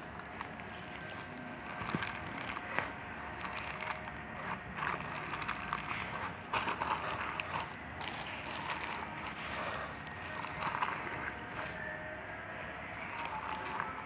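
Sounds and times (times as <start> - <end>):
slime crackling and popping: 0.0 - 11.8, 13.0 - 14.0.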